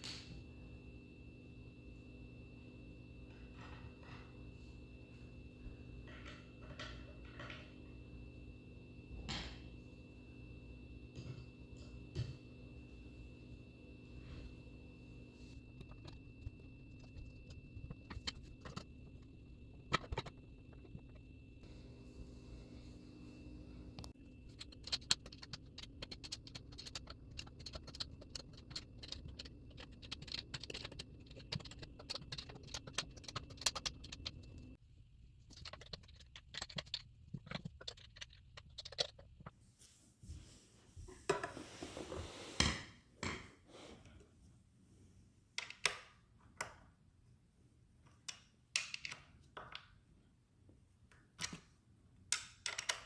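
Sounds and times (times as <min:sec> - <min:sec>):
steady hum: 0:00.0 - 0:44.3.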